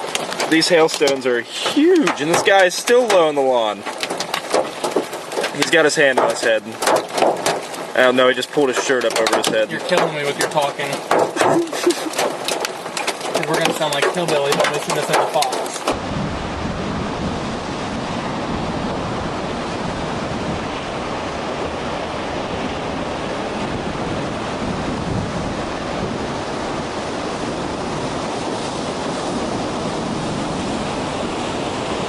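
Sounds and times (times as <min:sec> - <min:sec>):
heavy rain beating on microphone: 0:00.0 - 0:32.0
wind: 0:00.0 - 0:32.0.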